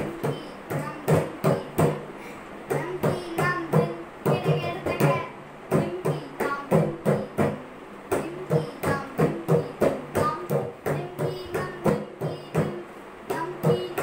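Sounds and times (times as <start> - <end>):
boy chanting rhythm syllables: 0.0 - 14.0
mridangam drum strokes: 0.0 - 14.0.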